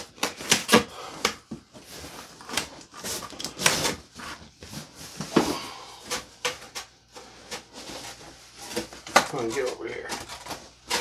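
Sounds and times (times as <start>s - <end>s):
cardboard flaps scraping and rustling: 0.0s - 11.0s.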